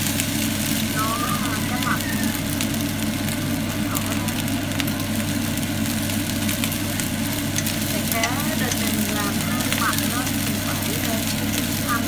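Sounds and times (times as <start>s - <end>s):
low machine hum: 0.0s - 12.0s
rice sizzling in a frying pan: 0.0s - 12.0s.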